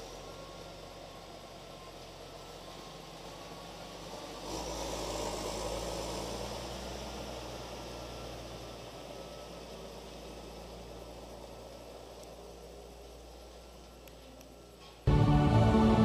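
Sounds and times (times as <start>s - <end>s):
tractor engine passing: 0.0s - 16.0s.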